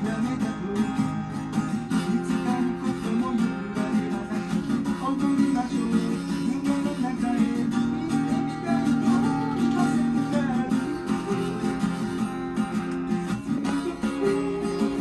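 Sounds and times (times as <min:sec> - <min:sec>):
acoustic guitar playing chords: 0:00.0 - 0:15.0.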